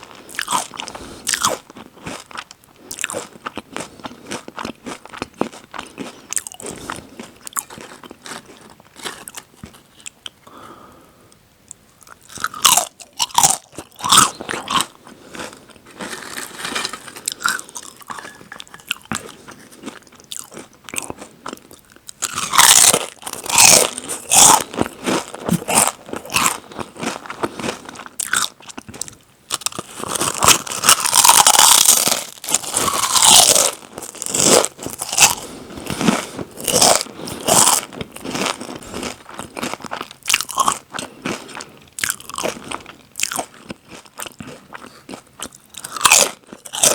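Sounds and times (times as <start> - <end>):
chips being chewed: 0.0 - 10.6, 12.0 - 46.9.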